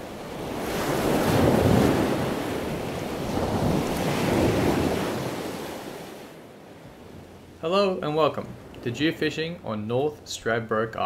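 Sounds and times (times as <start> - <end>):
ocean waves washing: 0.0 - 11.0.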